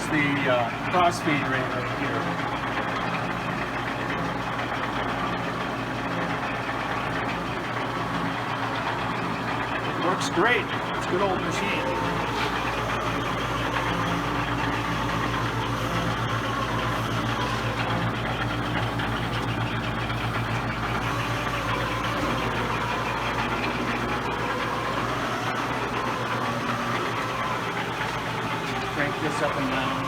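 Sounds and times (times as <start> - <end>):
metal shaper running: 0.0 - 30.0.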